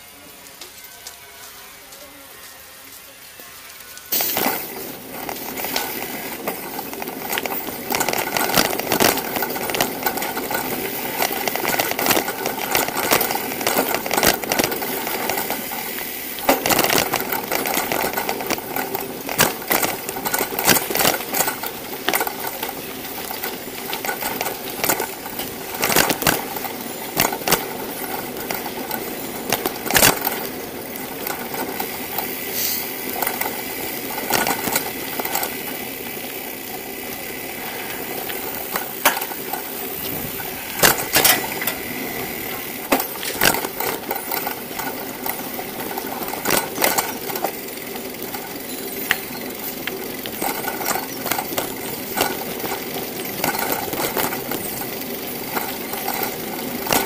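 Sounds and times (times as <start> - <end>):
bicycle rattling: 0.0 - 57.0
road noise rushing: 4.1 - 56.9.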